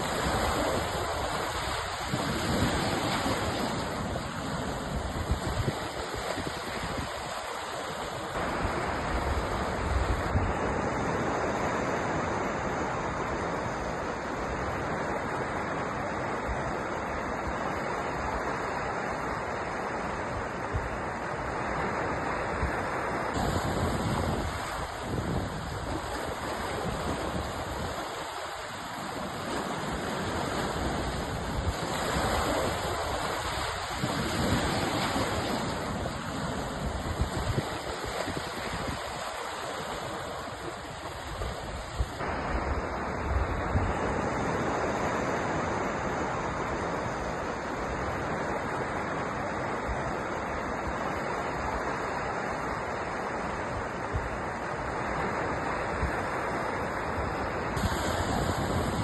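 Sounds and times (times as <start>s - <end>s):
ocean waves washing in: 0.0s - 59.0s.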